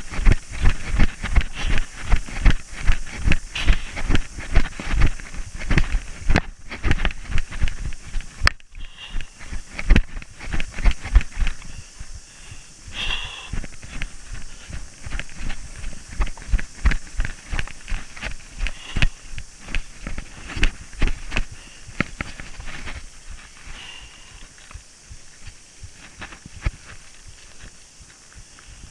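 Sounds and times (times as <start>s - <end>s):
tyre noise: 0.0s - 28.9s
wind hiss: 0.0s - 28.9s.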